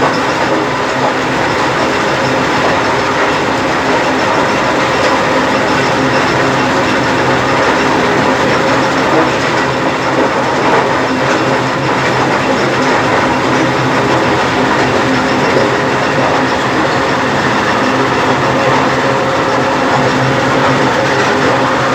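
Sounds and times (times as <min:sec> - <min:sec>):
constant hum: 0:00.0 - 0:21.9.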